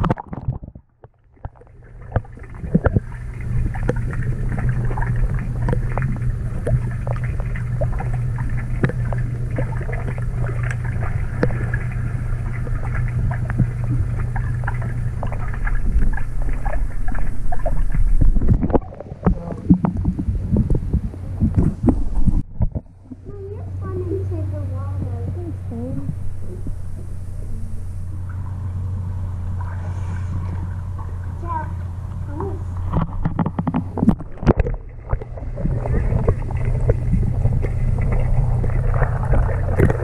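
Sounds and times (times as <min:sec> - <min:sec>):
underwater clicks and crackles: 0:00.0 - 0:23.5, 0:24.9 - 0:40.0
underwater low hum: 0:00.0 - 0:40.0.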